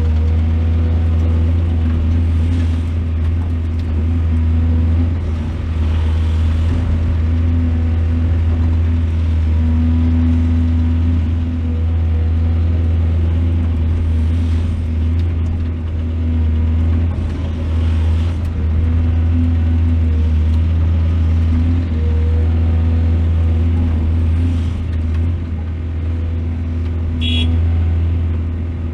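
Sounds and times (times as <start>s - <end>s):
excavator diesel engine: 0.0s - 28.9s.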